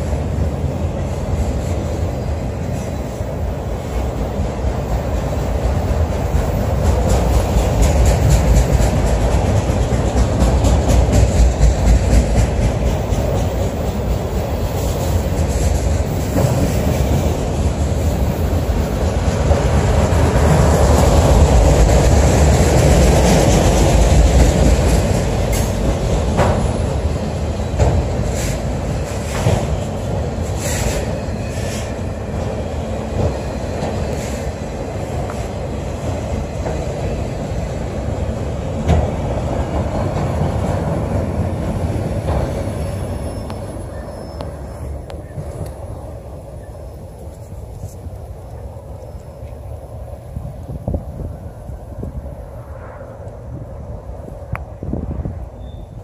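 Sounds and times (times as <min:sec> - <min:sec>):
rail cars clicking and clanking: 0:00.0 - 0:56.0
train wheels rumbling on rail: 0:00.0 - 0:56.0.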